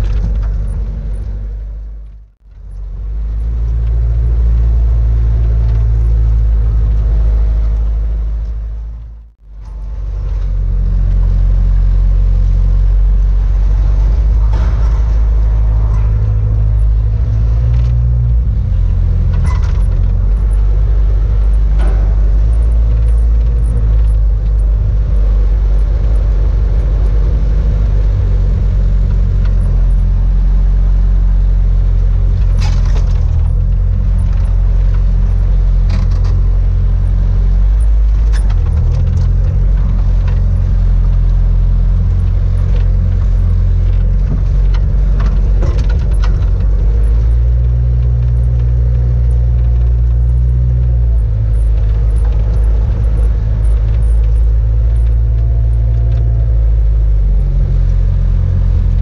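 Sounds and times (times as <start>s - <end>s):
clanks and rattles: 0.0s - 59.0s
diesel engine running: 0.0s - 59.0s.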